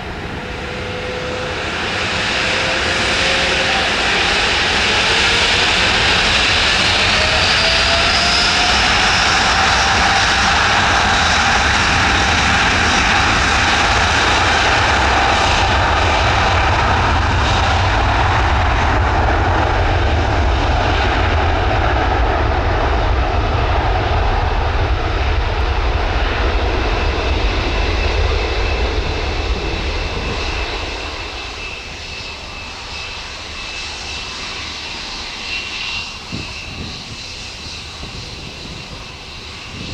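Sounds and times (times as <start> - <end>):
jet engines at take-off: 0.0 - 39.9.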